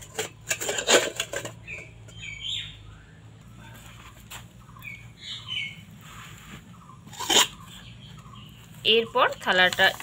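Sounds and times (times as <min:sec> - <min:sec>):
birds chirping: 0:01.4 - 0:10.0.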